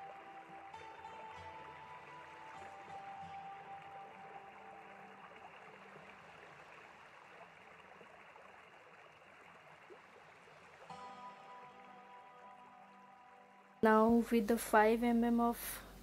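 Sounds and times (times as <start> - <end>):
faint steady hiss: 0.0 - 16.0
quiet background music: 0.0 - 16.0.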